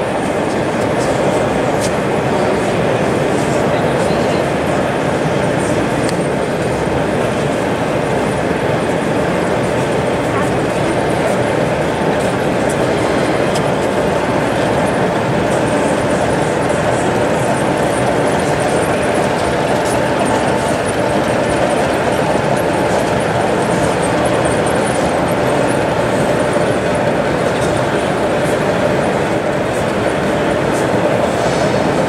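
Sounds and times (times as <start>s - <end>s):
model locomotive engine sound: 0.0s - 32.0s
model train rolling on track: 0.0s - 32.0s.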